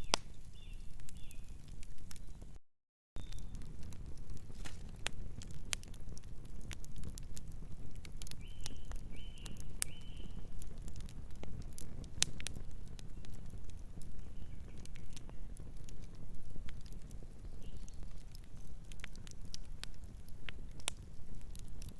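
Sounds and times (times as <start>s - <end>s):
low rumble of burning: 0.0s - 2.6s, 3.2s - 21.9s
wood fire crackling: 0.0s - 2.6s, 3.2s - 21.9s.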